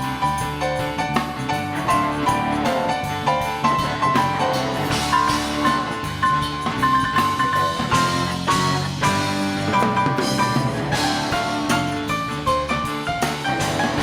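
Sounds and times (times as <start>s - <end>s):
drum kit: 0.0s - 14.0s
electric guitar: 0.0s - 14.0s
keyboards: 0.0s - 14.0s.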